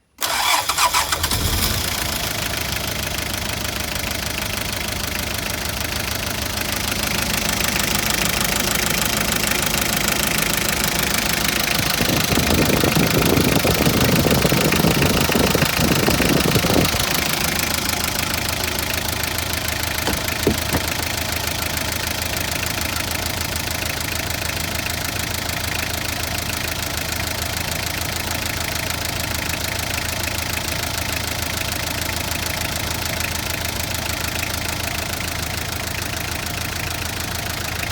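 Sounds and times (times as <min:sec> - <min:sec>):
diesel engine starting and idling: 0:00.1 - 0:37.9.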